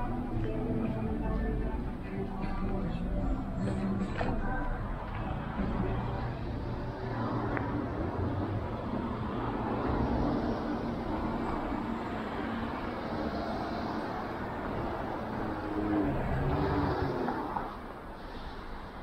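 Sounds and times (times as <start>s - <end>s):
cars passing on road: 0.0s - 19.0s.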